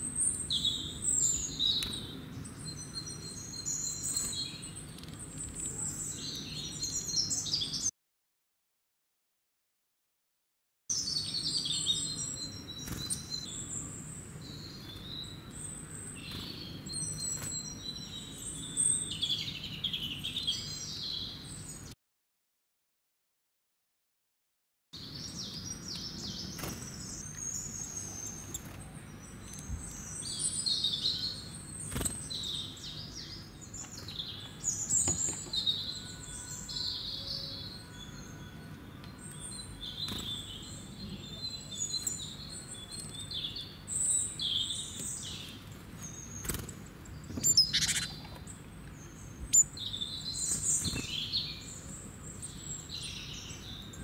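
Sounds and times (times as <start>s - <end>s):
small birds chirping: 0.0s - 7.9s, 10.9s - 22.0s, 25.0s - 54.0s.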